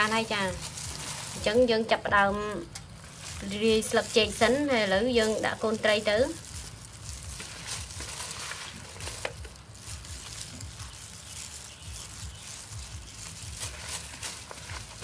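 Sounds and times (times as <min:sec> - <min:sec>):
wet rustling and squishing: 0:00.0 - 0:15.0.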